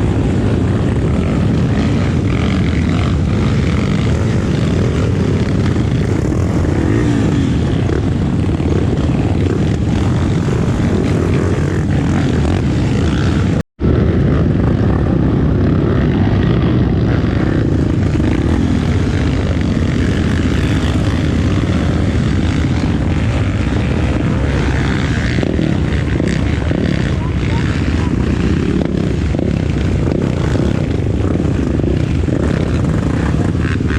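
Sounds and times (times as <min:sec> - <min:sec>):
motorcycle engine running: 0:00.0 - 0:33.9
wind rumble on microphone: 0:00.0 - 0:33.9.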